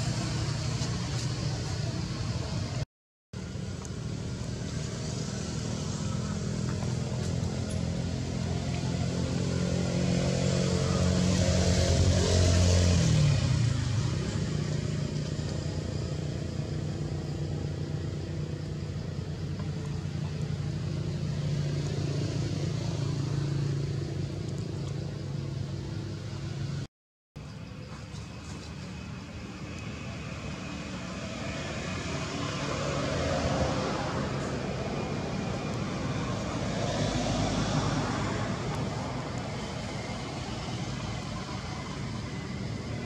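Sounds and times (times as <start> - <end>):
vehicle engine running: 3.4 - 12.3, 13.3 - 43.0.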